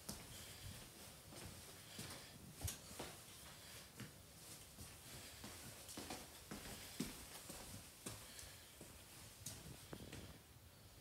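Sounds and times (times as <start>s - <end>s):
footsteps on concrete floor: 0.0s - 10.4s.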